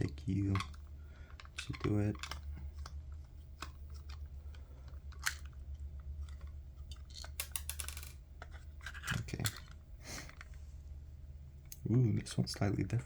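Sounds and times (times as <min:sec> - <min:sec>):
plastic parts clicking and crackling: 0:00.0 - 0:10.6
steady low hum: 0:00.0 - 0:13.0.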